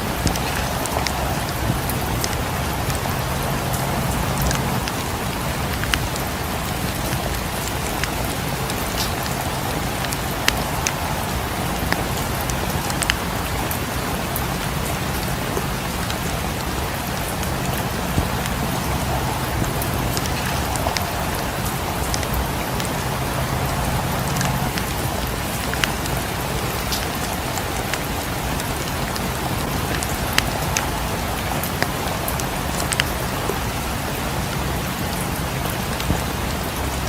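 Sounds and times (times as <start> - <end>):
wood fire crackling: 0.0 - 36.7
steady rain: 0.0 - 37.0.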